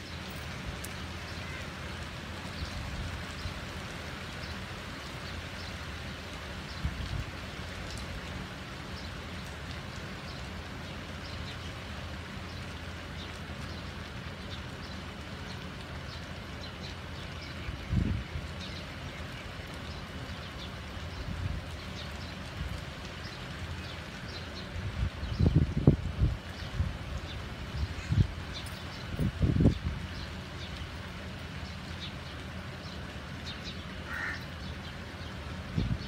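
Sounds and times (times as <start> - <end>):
rain on trees and paving: 0.0 - 36.0.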